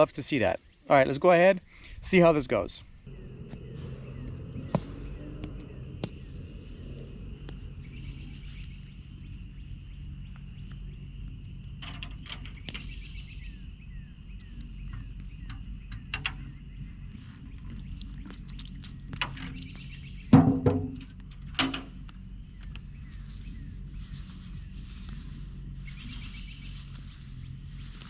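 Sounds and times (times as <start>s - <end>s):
birds chirping: 0.0s - 28.0s
steady low hum: 0.5s - 28.0s.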